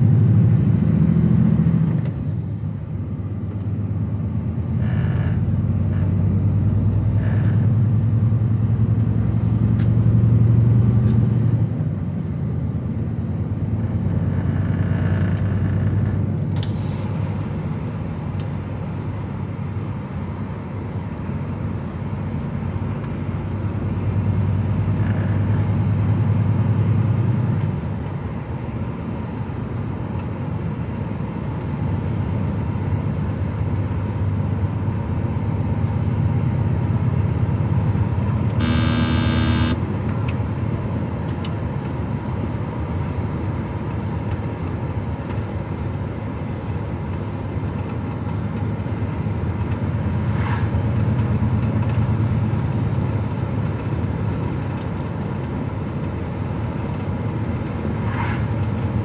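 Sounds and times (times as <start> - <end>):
truck diesel engine drone in cab: 0.0 - 59.0.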